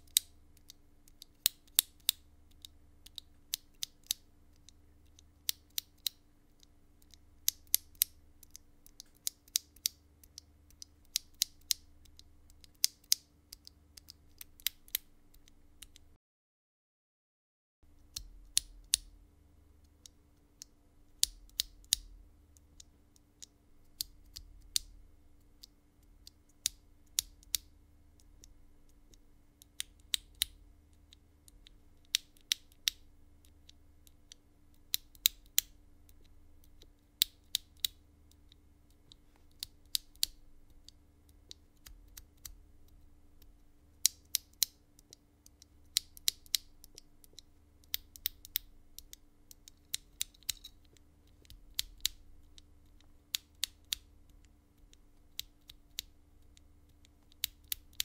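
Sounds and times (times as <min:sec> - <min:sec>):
faint steady hum: 0:00.0 - 0:16.2, 0:17.8 - 0:58.0.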